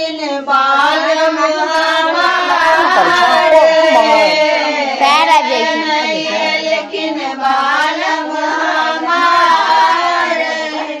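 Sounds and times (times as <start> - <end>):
women singing folk song together: 0.0 - 11.0.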